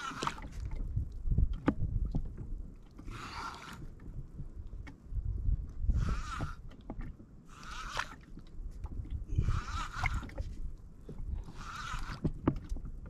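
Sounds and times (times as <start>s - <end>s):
paddle swishing through water: 0.0s - 13.0s.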